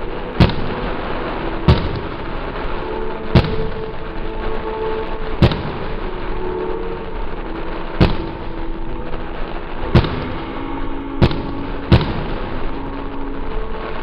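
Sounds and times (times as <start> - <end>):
background hiss: 0.0 - 14.0
fireworks bangs: 0.0 - 14.0.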